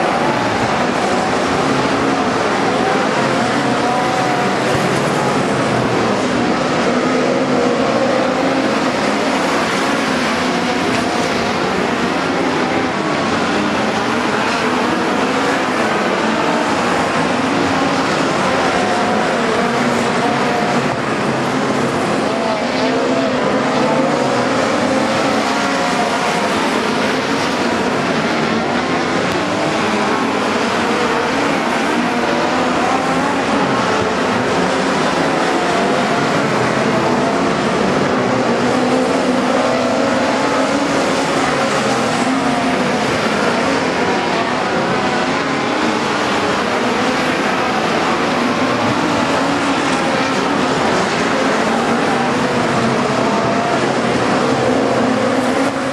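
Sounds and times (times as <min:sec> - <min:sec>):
race car engines in a pack: 0:00.0 - 0:55.9.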